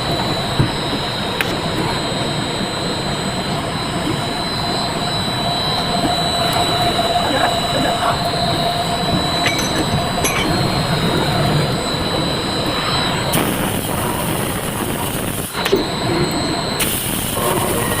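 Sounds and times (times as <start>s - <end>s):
circular saw machine running: 0.0s - 18.0s.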